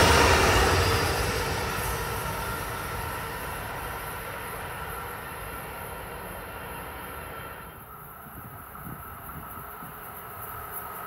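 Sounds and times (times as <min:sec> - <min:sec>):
train rumble and rail noise: 0:00.0 - 0:11.0.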